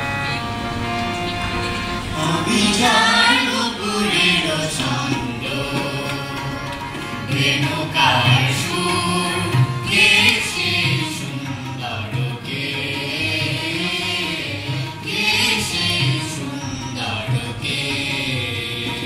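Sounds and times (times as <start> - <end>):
musical accompaniment: 0.0 - 19.0
children and adults singing in chorus: 0.4 - 19.0.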